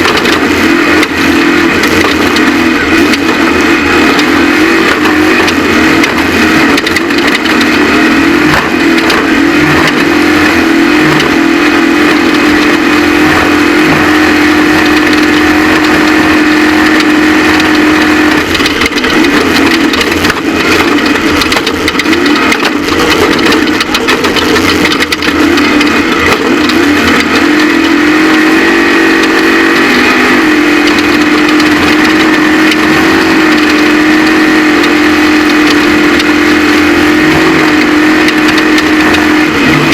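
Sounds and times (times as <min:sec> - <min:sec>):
engine running at high revs: 0:00.0 - 0:39.9
rumble and rattle: 0:00.0 - 0:39.9.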